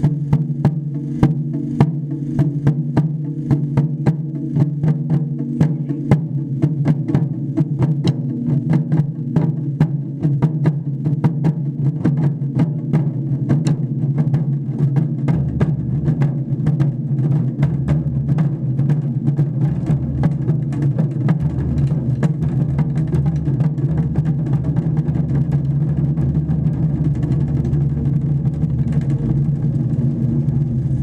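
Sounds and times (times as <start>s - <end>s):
taiko drums: 0.0s - 31.0s.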